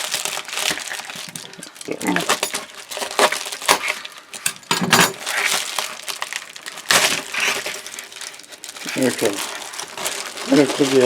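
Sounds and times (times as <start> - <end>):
plastic packaging clicks and crinkles: 0.0 - 11.0.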